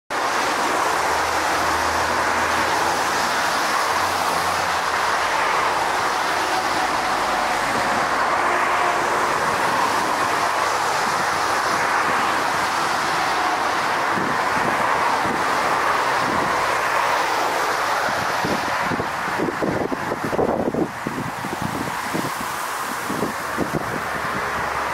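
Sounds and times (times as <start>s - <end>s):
jet engines rushing: 0.1s - 24.9s.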